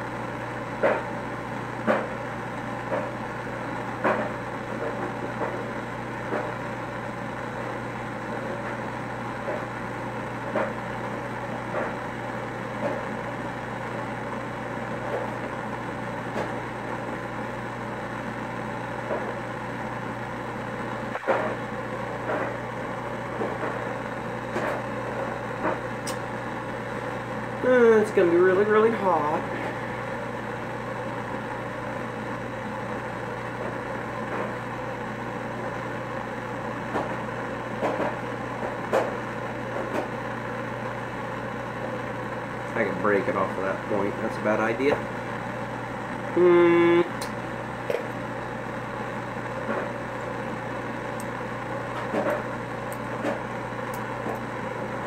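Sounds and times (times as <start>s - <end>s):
gas torch flame roaring: 0.0s - 55.0s.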